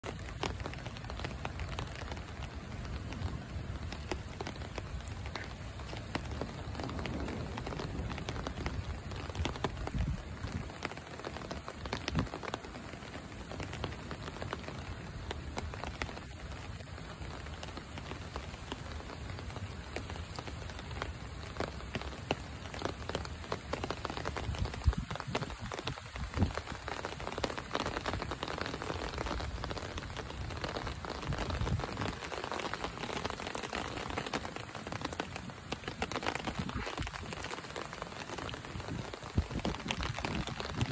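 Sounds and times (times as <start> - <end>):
rain splashing on water: 0.0 - 40.9.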